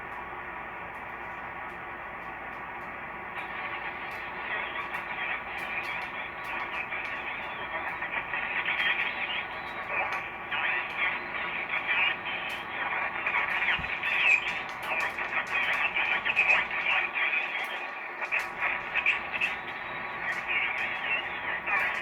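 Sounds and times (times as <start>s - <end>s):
radio static hiss: 0.0s - 22.0s
garbled radio voices: 3.3s - 22.0s.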